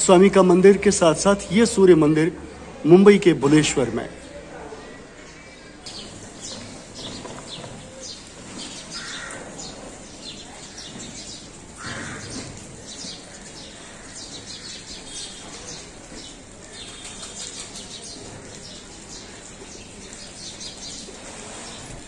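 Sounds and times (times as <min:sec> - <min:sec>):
street background noise: 0:00.0 - 0:22.0
birds chirping: 0:04.2 - 0:22.0.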